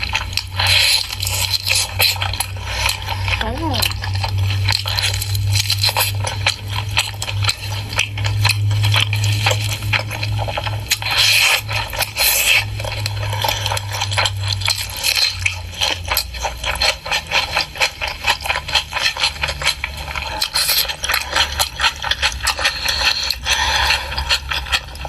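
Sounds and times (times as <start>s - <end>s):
chewing and crunching food: 0.0s - 25.0s
low steady hum: 0.0s - 25.0s.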